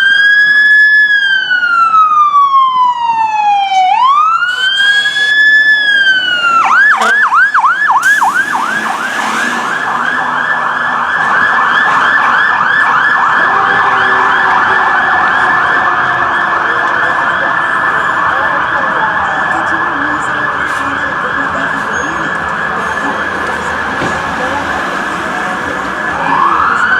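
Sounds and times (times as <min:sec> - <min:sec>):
fire truck siren: 0:00.0 - 0:26.9.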